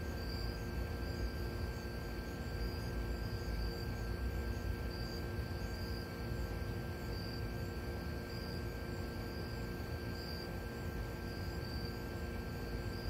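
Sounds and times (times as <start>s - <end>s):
night insects calling: 0.0s - 13.0s.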